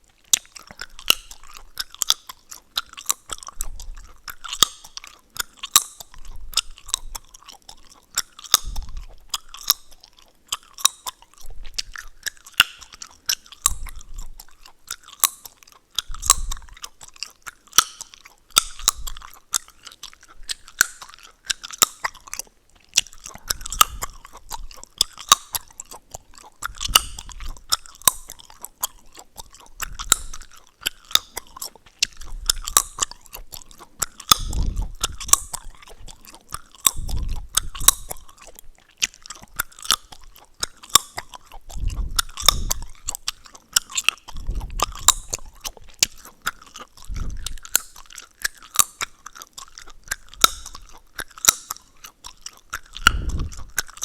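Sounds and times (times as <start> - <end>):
gum chewing smacks: 0.0 - 54.0
gum crackling and snapping: 0.0 - 54.0.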